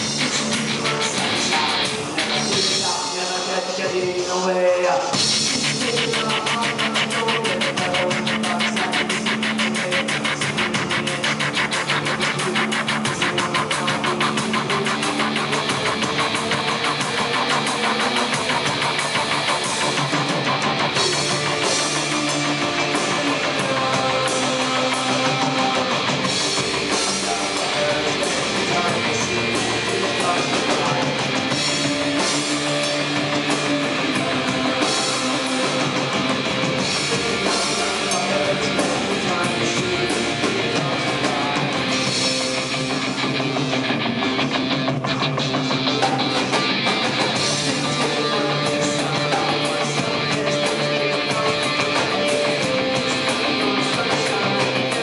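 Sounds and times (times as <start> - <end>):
drum kit: 0.0 - 55.0
guitar: 0.0 - 55.0
rock band playing loudly: 0.0 - 55.0.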